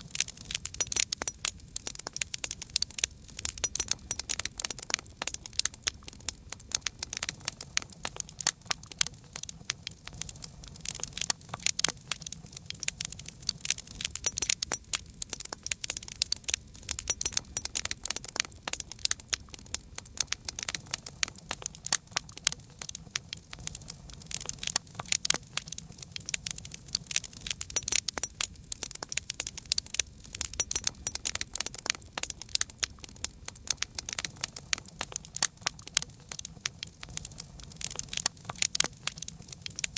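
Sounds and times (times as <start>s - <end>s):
burning wood popping: 0.0s - 39.9s
low rumble of flames: 0.0s - 39.9s.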